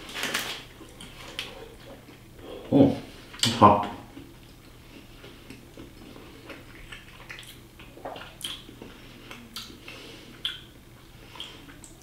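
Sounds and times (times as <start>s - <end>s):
chewing with soft crunches: 0.1s - 3.5s, 4.1s - 12.0s.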